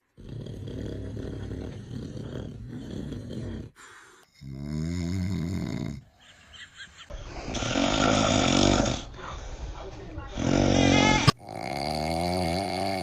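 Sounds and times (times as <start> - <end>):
person snoring: 0.0 - 6.2, 7.2 - 9.1, 10.3 - 13.0.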